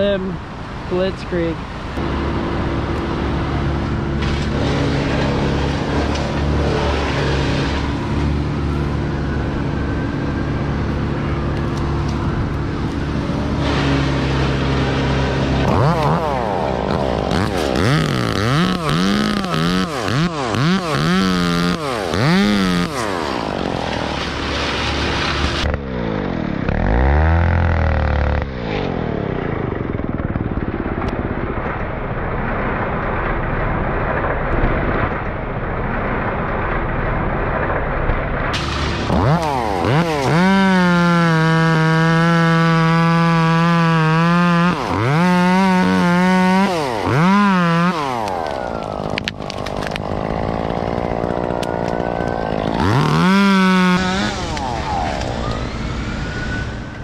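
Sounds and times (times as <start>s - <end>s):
chainsaw engine revving: 2.0s - 30.0s, 38.6s - 56.8s.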